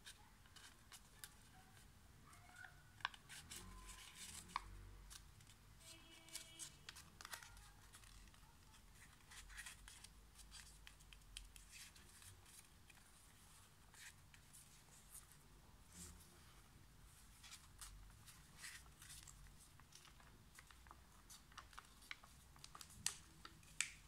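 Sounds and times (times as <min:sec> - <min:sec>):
paper being folded: 0:02.6 - 0:16.2, 0:17.1 - 0:24.0.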